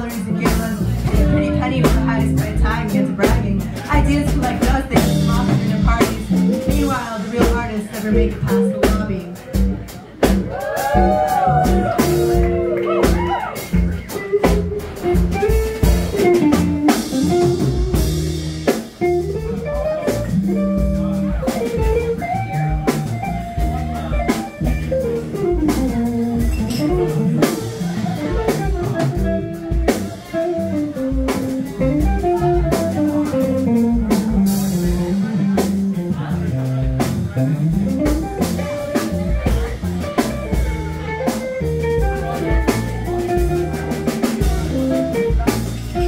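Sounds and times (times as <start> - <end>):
live instrumental band: 0.0 - 46.0.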